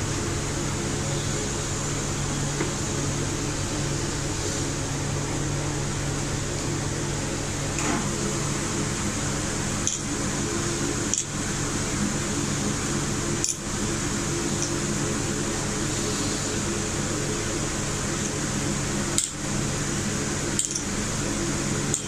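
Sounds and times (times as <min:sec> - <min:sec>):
motor hum with hiss: 0:00.0 - 0:22.0.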